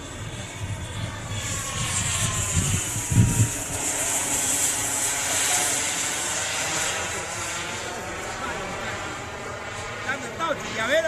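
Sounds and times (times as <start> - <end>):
model airplane engine droning: 0.0 - 11.0.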